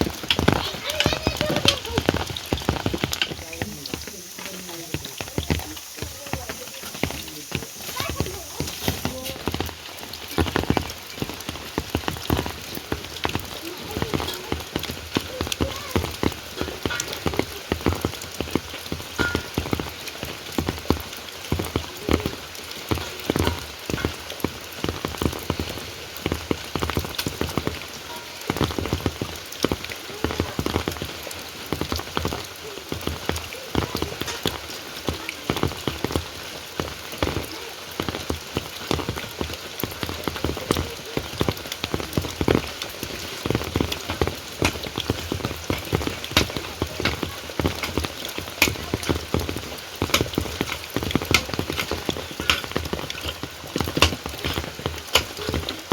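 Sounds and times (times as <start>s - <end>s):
drips tapping close by: 0.0s - 55.9s
heavy rain: 0.0s - 55.9s.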